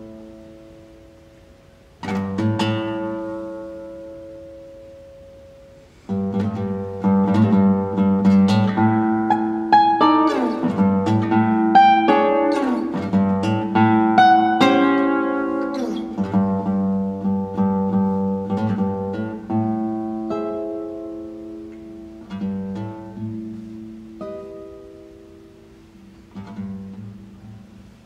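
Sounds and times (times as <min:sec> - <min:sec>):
classical guitar playing: 0:00.0 - 0:28.0.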